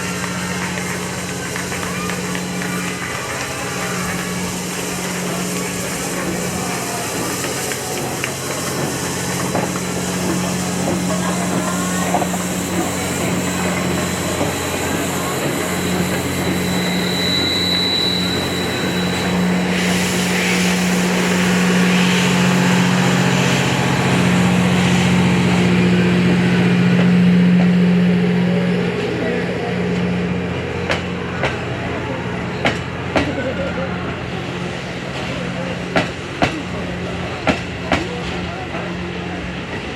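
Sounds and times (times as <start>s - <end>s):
murmur of people talking: 0.0s - 39.9s.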